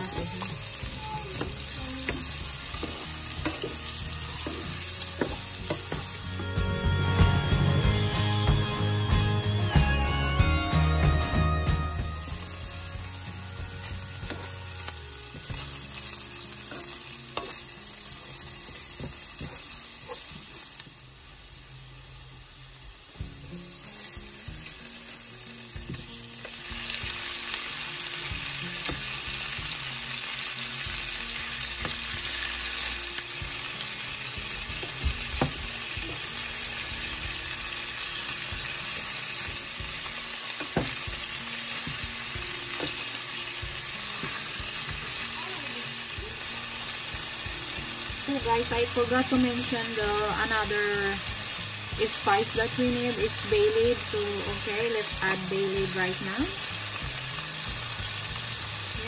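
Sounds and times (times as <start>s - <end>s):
food sizzling in oil: 0.0s - 8.2s, 11.8s - 59.0s.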